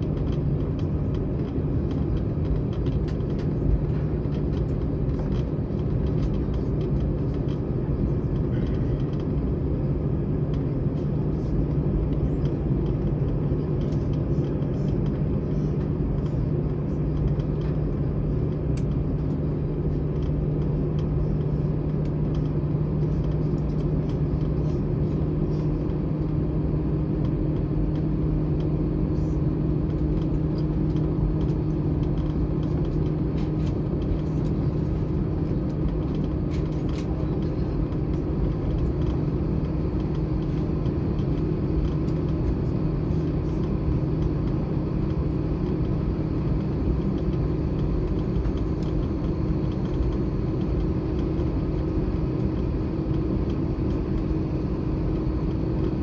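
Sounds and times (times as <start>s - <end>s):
jet engines humming: 0.0s - 56.0s
faint cabin ticks and rattles: 10.5s - 56.0s.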